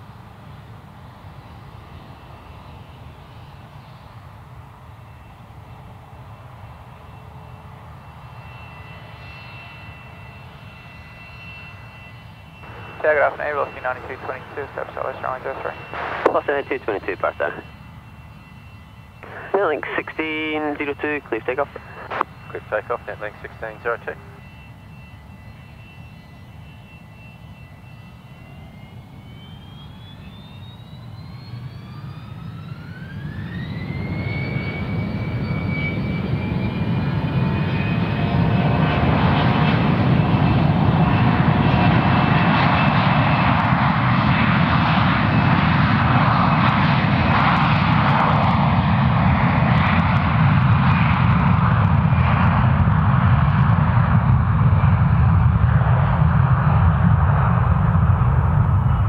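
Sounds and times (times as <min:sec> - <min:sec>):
jet engine roar: 0:00.0 - 0:59.0
jet engines spooling up: 0:08.3 - 0:59.0.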